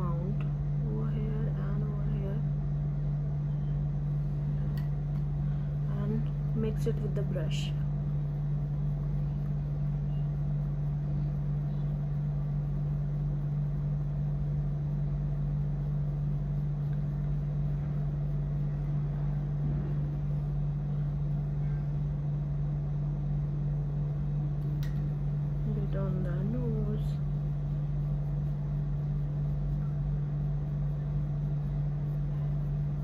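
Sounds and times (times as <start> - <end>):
faint rumble: 0.0 - 33.0
low hum: 0.0 - 33.0.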